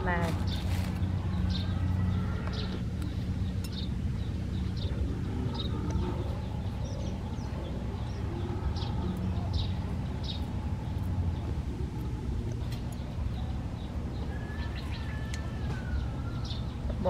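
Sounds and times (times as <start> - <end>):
birds chirping: 0.0 - 17.0
low steady rumble: 0.0 - 17.0.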